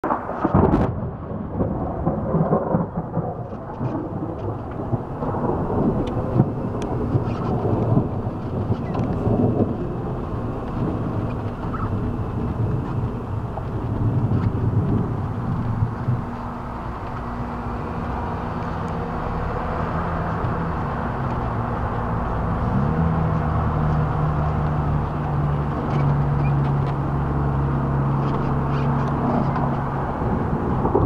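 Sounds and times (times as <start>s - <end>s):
rolling thunder rumble: 0.0s - 31.0s
thunder crack: 0.0s - 31.0s.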